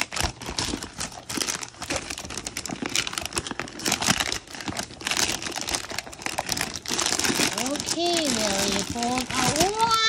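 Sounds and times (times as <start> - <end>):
foil wrapping paper crinkling and tearing: 0.0 - 10.0.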